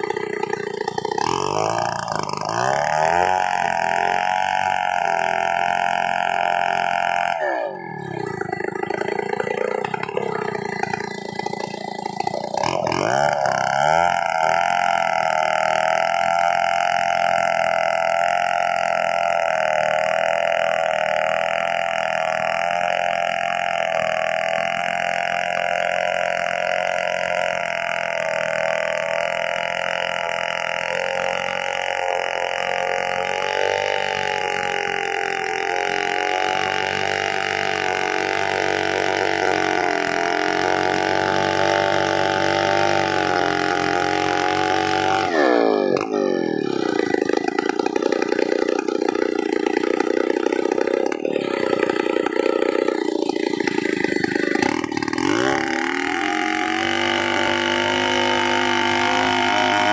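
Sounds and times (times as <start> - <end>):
chainsaw engine running: 0.0 - 59.9.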